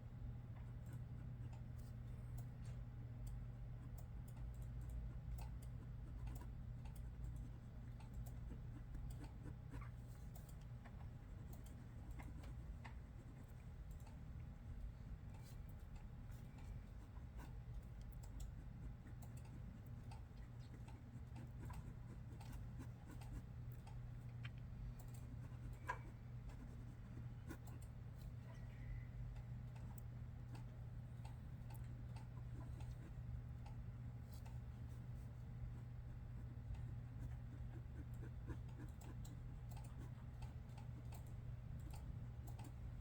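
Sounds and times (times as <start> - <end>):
low steady room hum: 0.0 - 43.0
faint clicks and taps at desk: 0.5 - 43.0.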